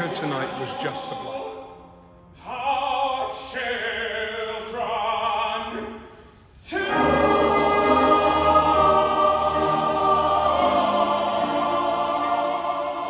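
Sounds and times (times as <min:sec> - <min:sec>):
male voice choir singing: 0:00.0 - 0:01.8, 0:02.4 - 0:13.0.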